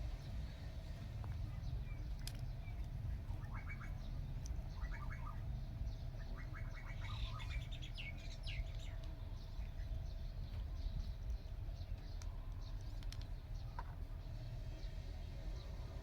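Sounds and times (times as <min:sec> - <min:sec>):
birds chirping: 0:00.0 - 0:16.0
faint hum: 0:00.0 - 0:16.0
low rumble: 0:00.0 - 0:16.0.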